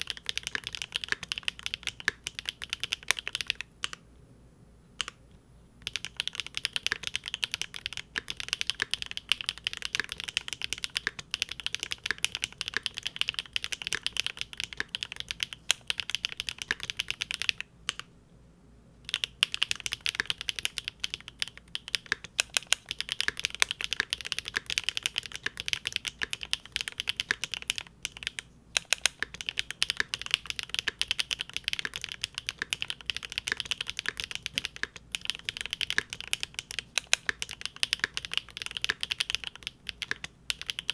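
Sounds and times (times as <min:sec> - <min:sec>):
fast typing on mechanical keyboard: 0:00.0 - 0:04.0, 0:05.8 - 0:18.0, 0:19.1 - 0:40.9.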